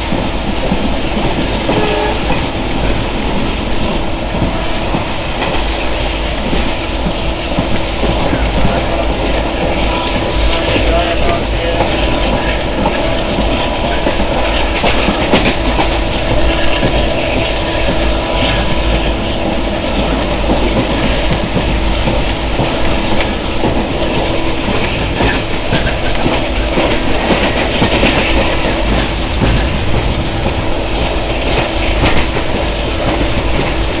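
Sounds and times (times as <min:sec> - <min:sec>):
train rumble: 0:00.0 - 0:34.0
wheels clattering over rails: 0:00.0 - 0:34.0.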